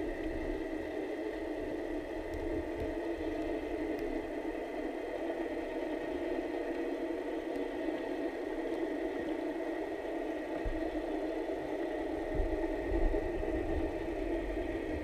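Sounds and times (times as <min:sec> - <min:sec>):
muffled underwater hiss: 0:00.0 - 0:15.0.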